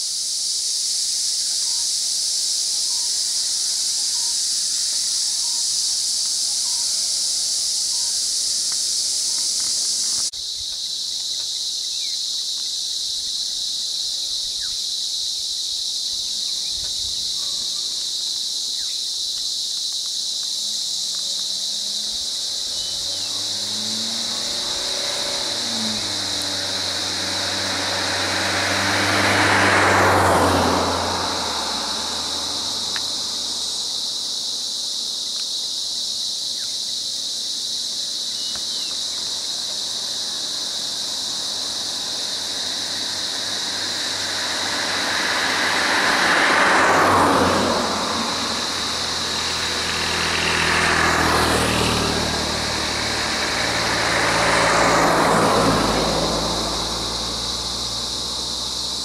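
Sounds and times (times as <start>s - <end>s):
high-pitched insect drone: 0.0s - 59.0s
road vehicles passing: 0.4s - 10.4s, 16.1s - 59.0s.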